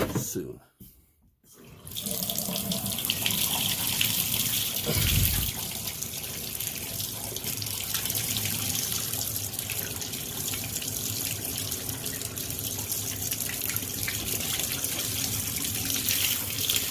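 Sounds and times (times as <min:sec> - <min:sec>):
water running from a tap: 0:01.7 - 0:16.9.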